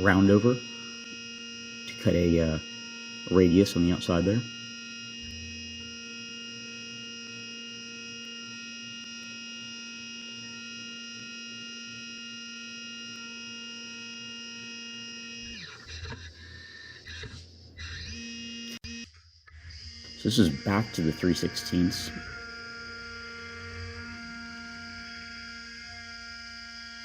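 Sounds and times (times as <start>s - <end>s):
milling machine spindle whine: 0.0s - 27.0s.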